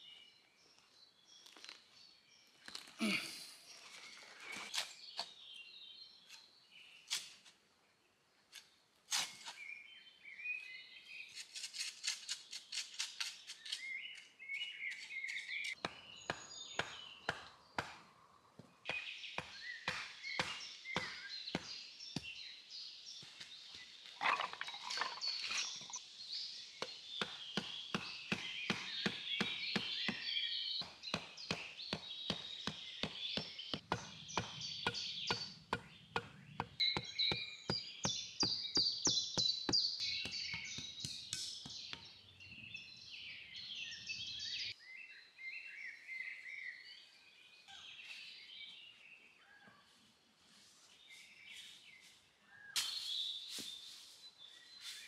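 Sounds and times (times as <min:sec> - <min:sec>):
birds singing and chirping: 0:00.0 - 0:07.2, 0:09.2 - 0:50.1, 0:50.8 - 0:55.0.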